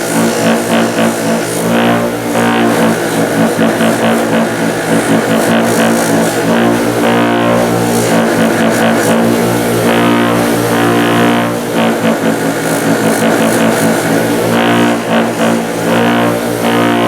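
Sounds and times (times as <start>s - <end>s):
electric motor running: 0.0s - 17.0s
grinding wheel hiss: 0.0s - 17.0s.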